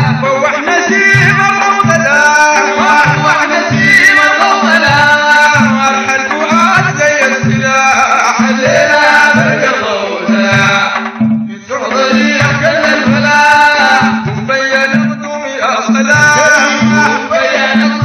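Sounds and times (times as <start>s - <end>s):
frame drums beating: 0.0s - 18.0s
men chanting a hymn: 0.0s - 18.0s.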